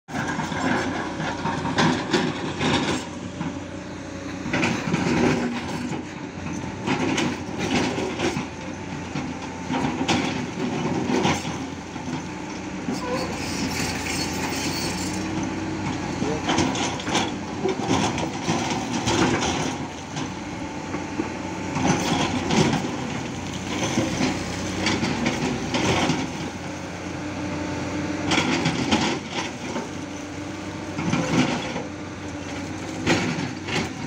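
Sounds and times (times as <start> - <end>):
excavator diesel engine: 0.1 - 34.0.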